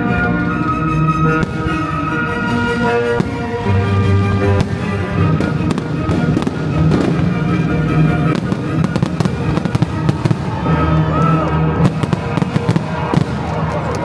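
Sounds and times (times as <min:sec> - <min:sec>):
music: 0:00.0 - 0:14.0
fireworks bangs and crackles: 0:00.2 - 0:14.0.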